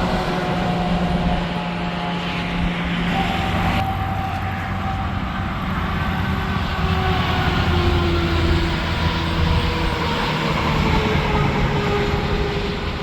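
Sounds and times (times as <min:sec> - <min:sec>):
truck diesel engines droning: 0:00.0 - 0:13.0.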